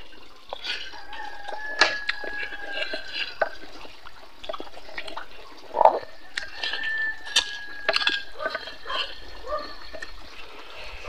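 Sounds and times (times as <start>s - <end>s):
wet chewing and lip smacking: 0.0s - 11.0s.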